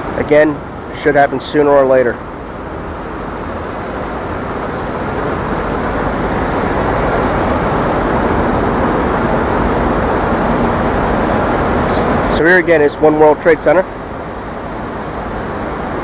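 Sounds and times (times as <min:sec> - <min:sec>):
street traffic: 0:00.0 - 0:16.0
vehicle approaching: 0:00.0 - 0:16.0.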